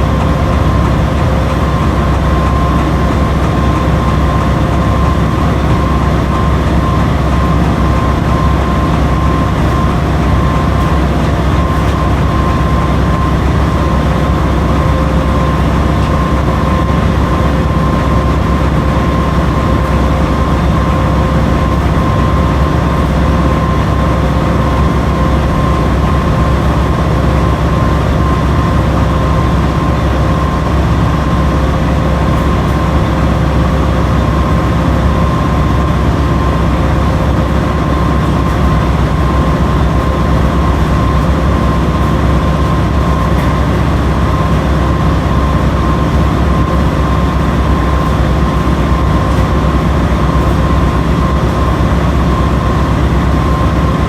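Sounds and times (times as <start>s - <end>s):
washing machine running: 0.0s - 54.0s.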